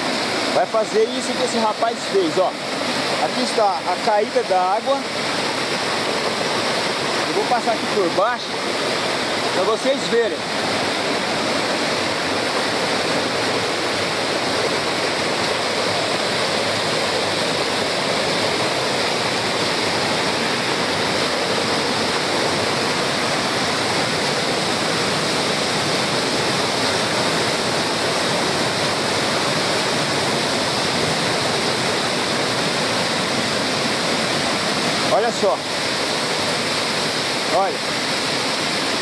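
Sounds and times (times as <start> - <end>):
waterfall rushing over rocks: 0.0 - 39.0.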